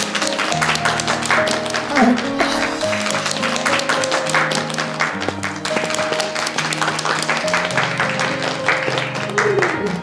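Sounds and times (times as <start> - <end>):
background music with held notes: 0.0 - 10.0
group clapping: 0.0 - 10.0.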